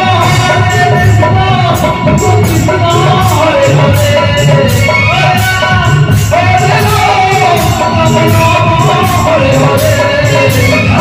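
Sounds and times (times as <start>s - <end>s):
barrel drums: 0.0s - 11.0s
man singing into microphone: 0.0s - 11.0s.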